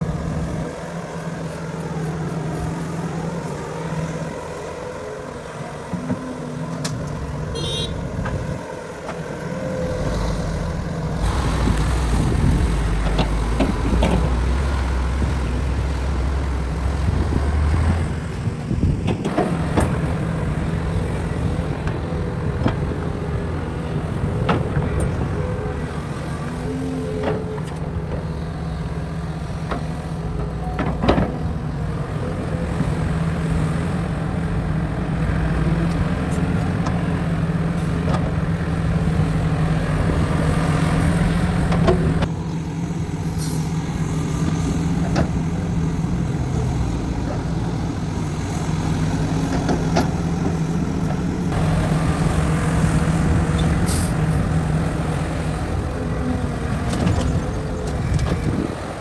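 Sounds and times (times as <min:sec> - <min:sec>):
diesel machinery droning: 0:00.0 - 0:59.0.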